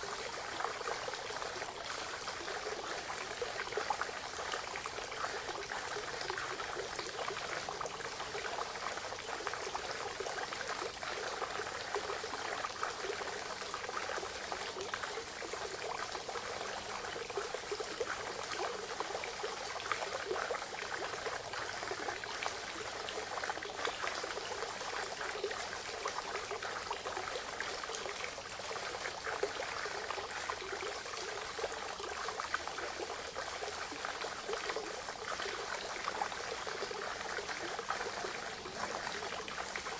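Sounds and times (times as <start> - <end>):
spring water trickling and splashing: 0.0 - 39.9.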